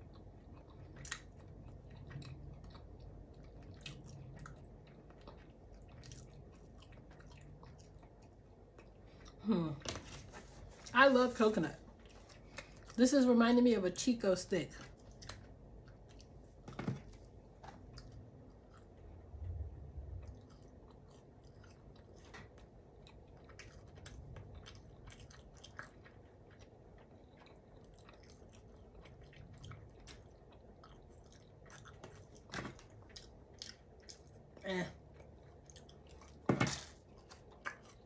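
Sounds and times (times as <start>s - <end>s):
person chewing: 0.0s - 10.9s, 11.8s - 13.0s, 14.8s - 19.2s, 20.1s - 38.0s.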